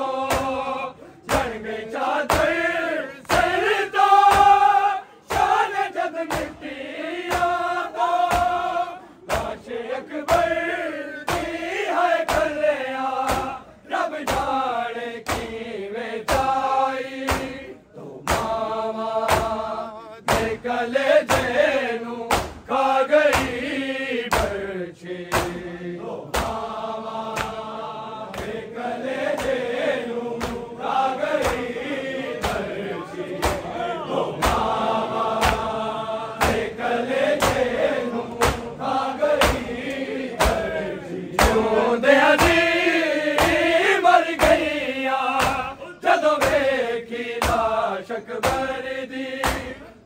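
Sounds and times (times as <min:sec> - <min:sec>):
men chanting a lament: 0:00.0 - 0:50.0
rhythmic sharp slaps: 0:00.0 - 0:50.0.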